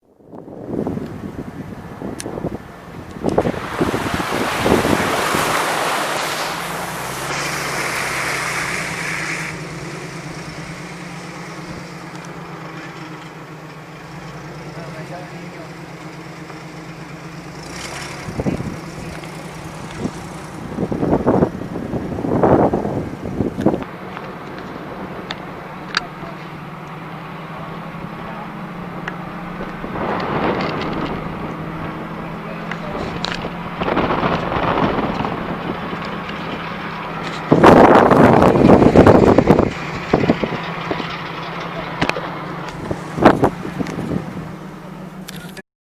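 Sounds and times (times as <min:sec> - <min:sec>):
wind buffeting microphone: 0:00.1 - 0:13.1, 0:15.8 - 0:45.3
mountain stream rushing: 0:02.7 - 0:45.6.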